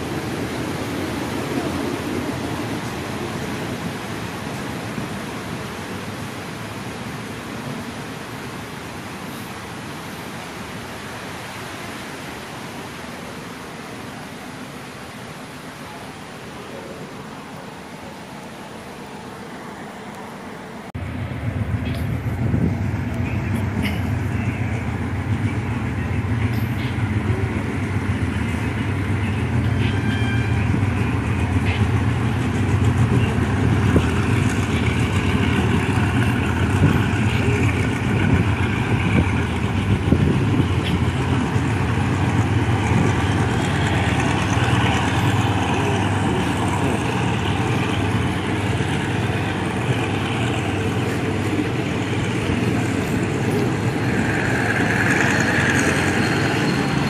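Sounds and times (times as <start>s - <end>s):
diesel train engine idling: 0.0s - 10.4s, 15.3s - 57.0s.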